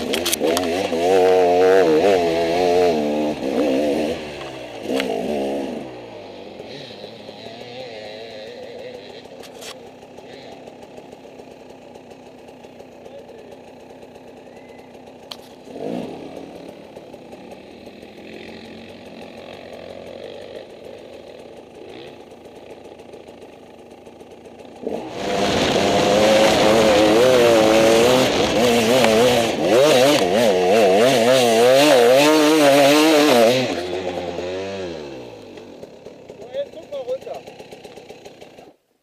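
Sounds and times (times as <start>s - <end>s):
dirt bike engine revving: 0.0s - 38.8s.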